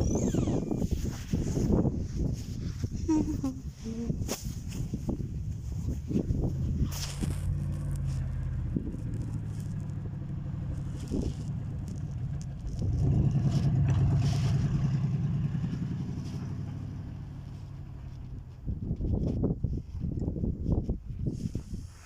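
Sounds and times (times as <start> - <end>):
engine pulsing hum: 0.0 - 20.9.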